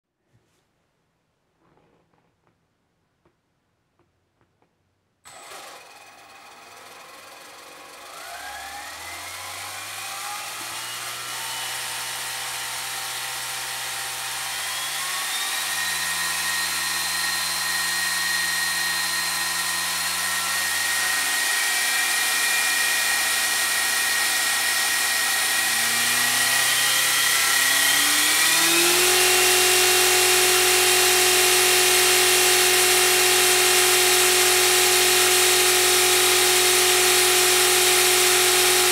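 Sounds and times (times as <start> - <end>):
electric motor whine spooling up: 5.3 - 38.9.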